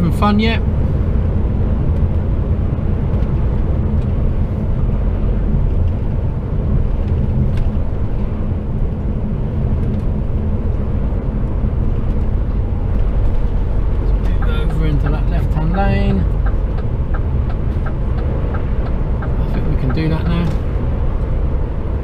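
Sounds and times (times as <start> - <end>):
lorry engine drone: 0.0 - 22.0
road and tyre noise: 0.0 - 22.0.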